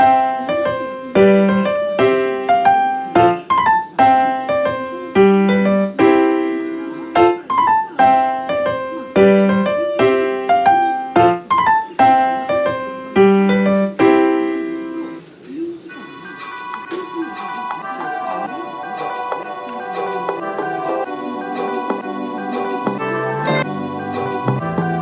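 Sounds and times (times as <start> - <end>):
gentle piano melody: 0.0 - 15.3, 16.2 - 25.0.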